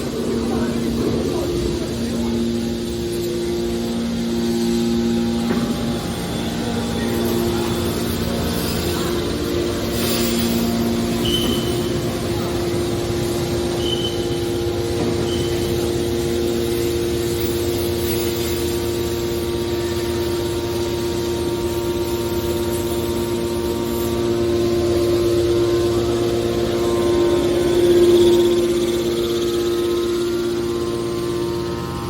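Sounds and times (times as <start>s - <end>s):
hydraulic baler humming and whining: 0.0s - 32.0s.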